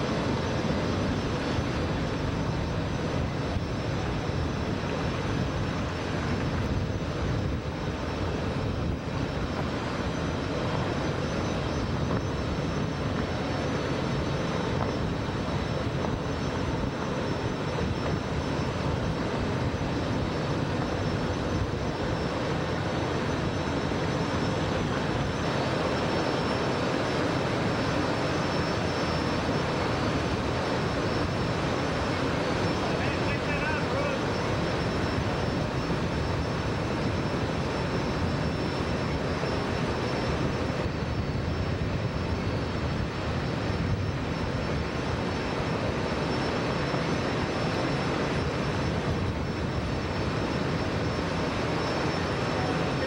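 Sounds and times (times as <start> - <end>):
boat engines droning: 0.0 - 53.0
rushing wind: 0.0 - 53.0.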